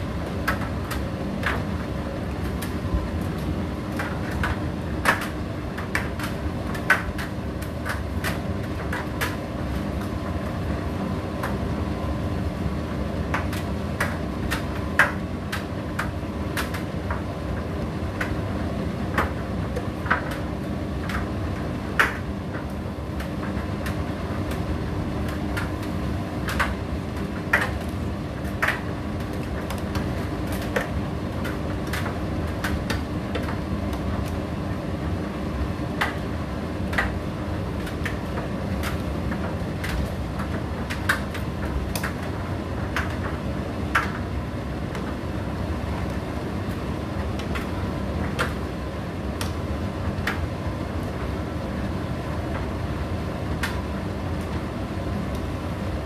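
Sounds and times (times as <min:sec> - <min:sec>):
tumble dryer motor hum: 0:00.0 - 0:56.0.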